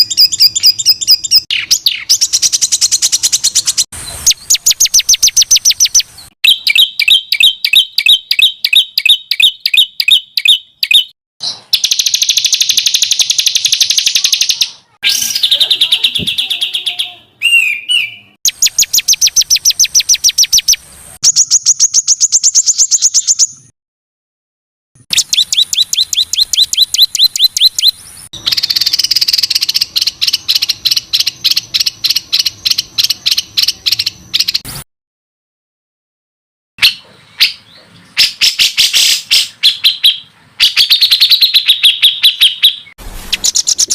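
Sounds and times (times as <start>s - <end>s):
songbird sharp chirping: 0.0s - 23.7s, 25.1s - 34.7s, 36.8s - 43.9s.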